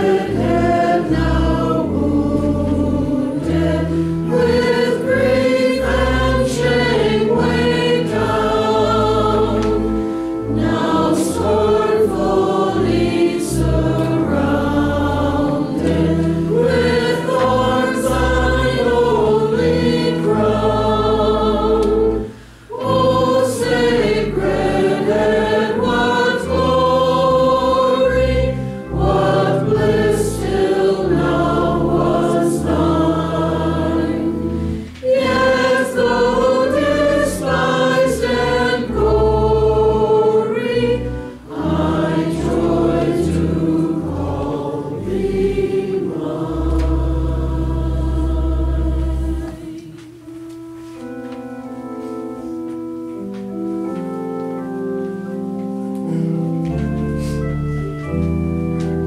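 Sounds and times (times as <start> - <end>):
mixed choir singing a hymn: 0.0 - 50.2.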